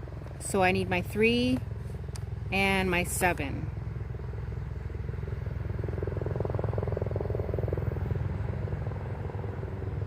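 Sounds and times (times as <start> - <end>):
distant lawn mower engine: 0.0 - 10.0.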